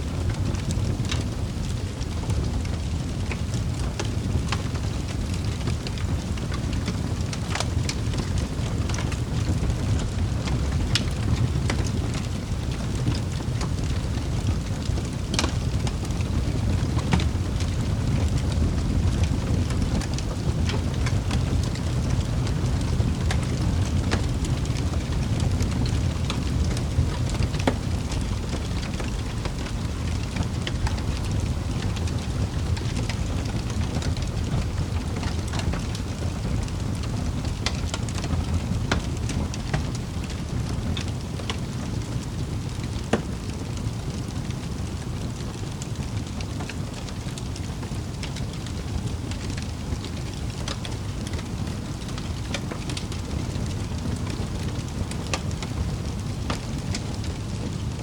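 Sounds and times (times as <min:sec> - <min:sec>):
fire crackling and popping: 0:00.0 - 0:58.0
rush of fire flames: 0:00.0 - 0:58.0.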